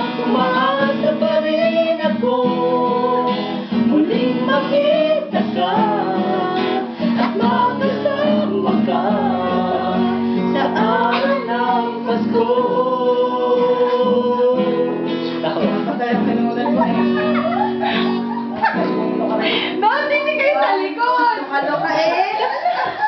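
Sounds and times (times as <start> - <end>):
acoustic guitar strumming: 0.0 - 21.4.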